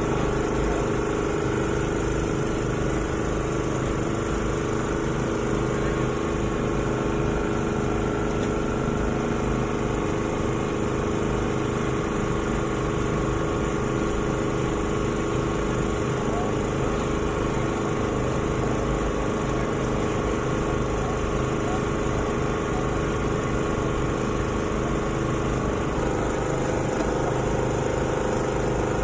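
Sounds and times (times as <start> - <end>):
small engine humming: 0.0 - 29.0.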